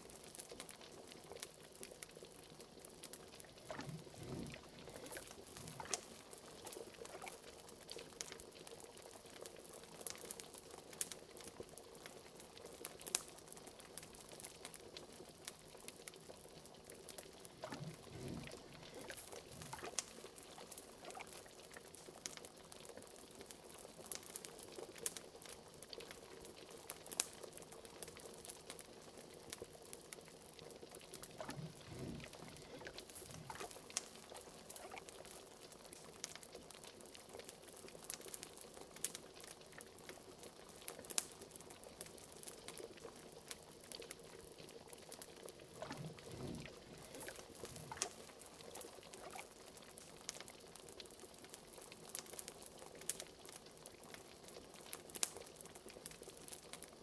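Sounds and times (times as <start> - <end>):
liquid bubbling in a pot: 0.0 - 57.0
wood fire crackling: 0.0 - 57.0.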